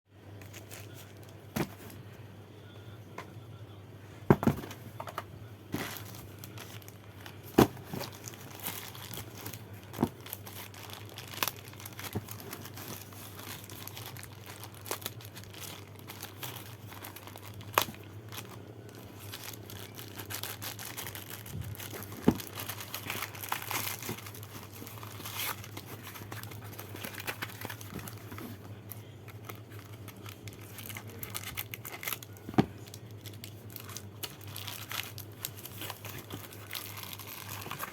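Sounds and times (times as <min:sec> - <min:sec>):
steady low hum: 0:00.1 - 0:37.9
packaging crinkling and tearing: 0:05.8 - 0:37.9.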